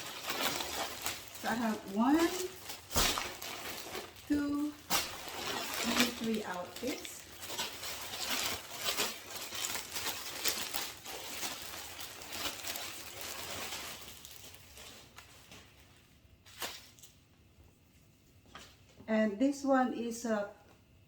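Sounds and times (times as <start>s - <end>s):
plastic packaging crinkling: 0.0s - 17.2s.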